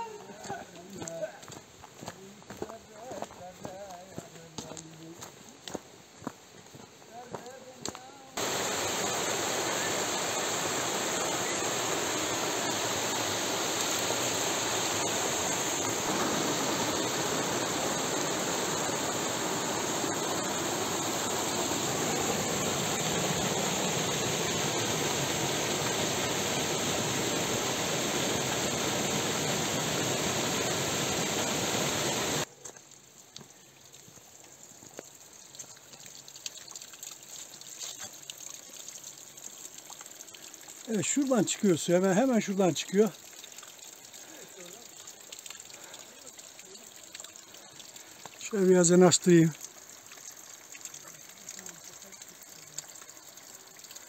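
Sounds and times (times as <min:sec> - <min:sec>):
stream cascading over rocks: 0:00.0 - 0:54.0
water trickling and dripping: 0:00.0 - 0:54.0.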